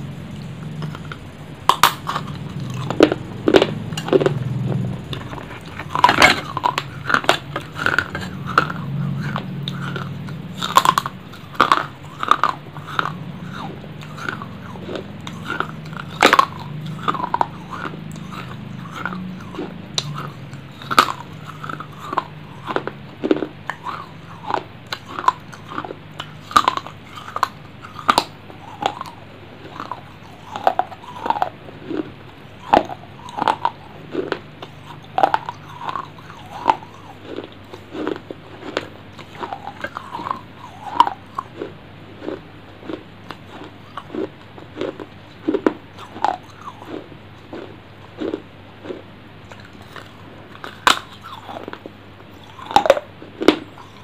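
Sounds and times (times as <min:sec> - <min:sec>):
chewing hard clay crunches: 0:00.0 - 0:54.0.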